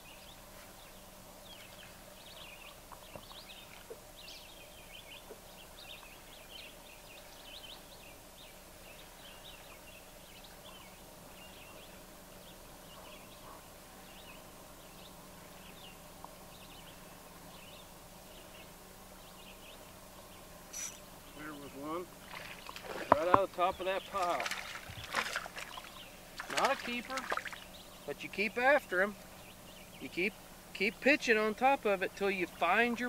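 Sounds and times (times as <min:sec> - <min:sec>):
birds chirping: 0:00.0 - 0:33.0
low steady hum: 0:00.0 - 0:33.0.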